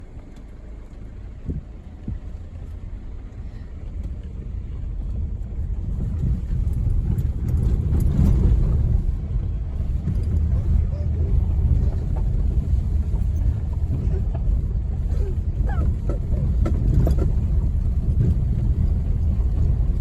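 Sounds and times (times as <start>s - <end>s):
engine and tyres rumbling on dirt: 0.0s - 20.0s.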